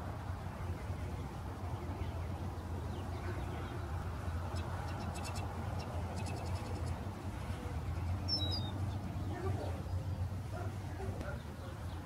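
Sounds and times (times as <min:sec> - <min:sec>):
songbirds calling: 0:00.2 - 0:12.0.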